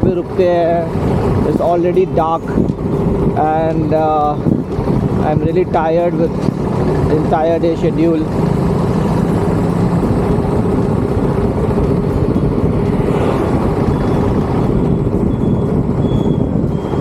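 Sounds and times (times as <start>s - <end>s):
motorcycle engine hum: 0.0s - 17.0s
road and wind noise: 0.0s - 17.0s.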